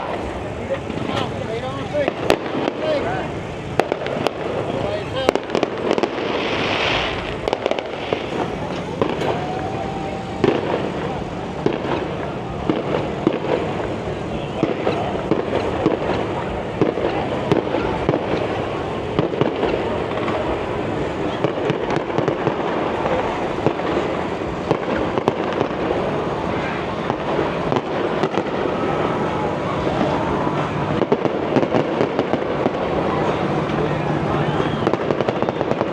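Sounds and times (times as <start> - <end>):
crowd voices: 0.0 - 35.9
fireworks bangs and crackles: 0.0 - 35.9.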